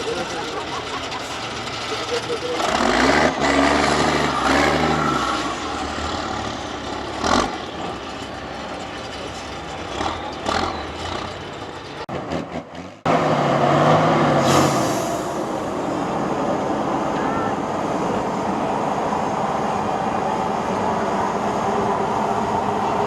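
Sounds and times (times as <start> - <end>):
truck engine running hard: 0.0 - 23.0.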